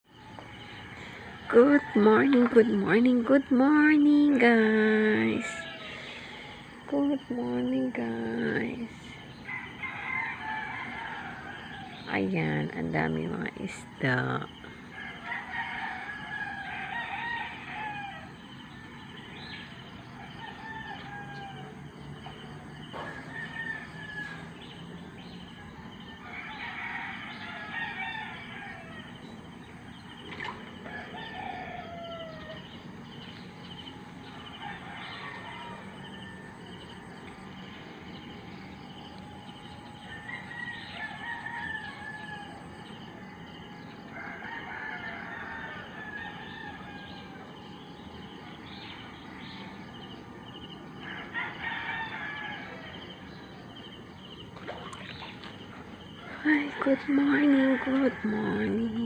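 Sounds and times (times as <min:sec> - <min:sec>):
roosters crowing: 0:04.4 - 0:06.8, 0:09.3 - 0:12.1, 0:14.8 - 0:59.0.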